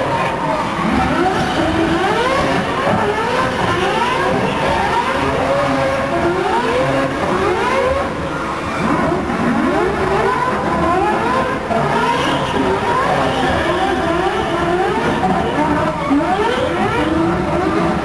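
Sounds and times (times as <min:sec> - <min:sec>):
rotary engine revving hard: 0:00.0 - 0:18.0
tyres spinning: 0:00.0 - 0:18.0.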